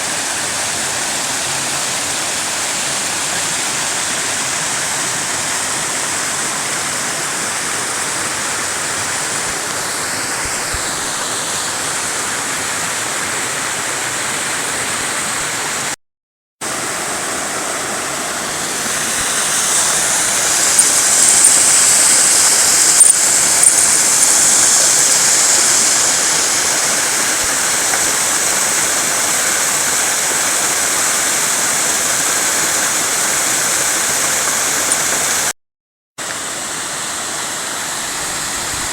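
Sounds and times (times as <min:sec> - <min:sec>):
waterfall rushing: 0:00.0 - 0:16.0, 0:16.6 - 0:35.5, 0:36.2 - 0:38.9.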